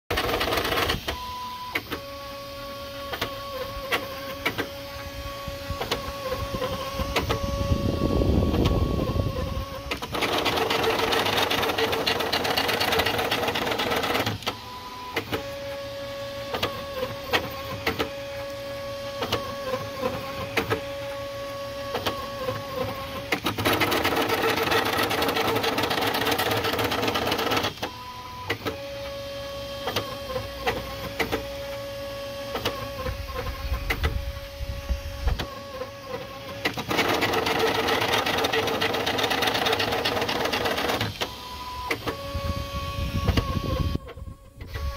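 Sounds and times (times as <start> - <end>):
steady whine: 0.1 - 44.9
stepper motors running: 0.1 - 44.9.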